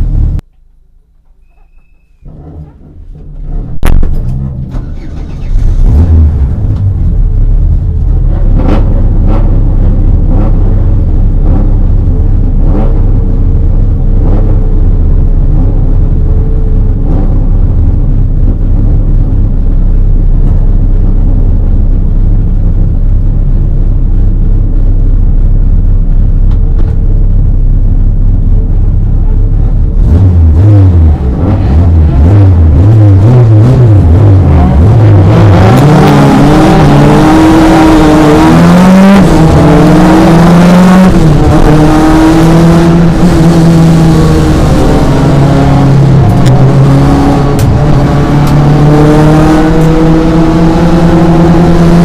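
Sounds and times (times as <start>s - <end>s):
race car engine rumble: 0.0s - 52.0s.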